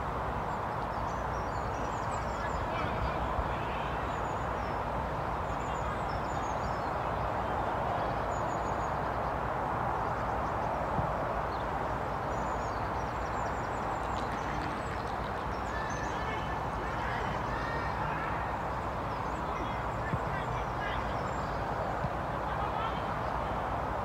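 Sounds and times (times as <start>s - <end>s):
rushing background noise: 0.0s - 24.0s.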